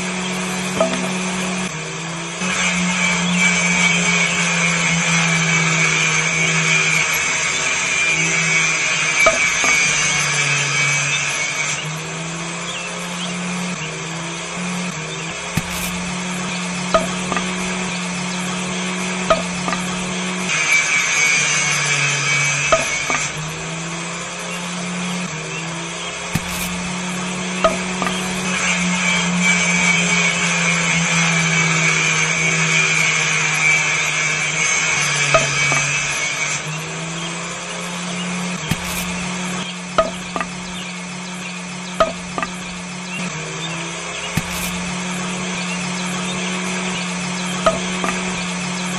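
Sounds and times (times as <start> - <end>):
saw disc grinding through sticks: 0.0 - 48.9
small electric saw motor running: 0.0 - 48.9.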